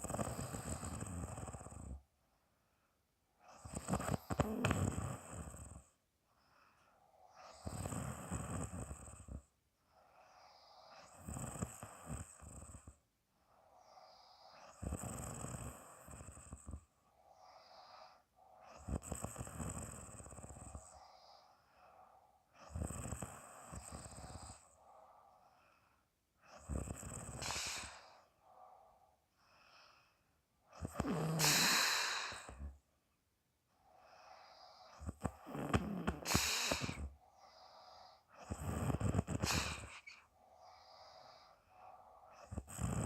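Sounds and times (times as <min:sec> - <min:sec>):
woman snoring: 0:00.0 - 0:02.0, 0:03.4 - 0:05.9, 0:07.3 - 0:09.5, 0:10.2 - 0:13.0, 0:13.7 - 0:25.6, 0:26.5 - 0:29.0, 0:30.7 - 0:32.8, 0:33.8 - 0:43.0.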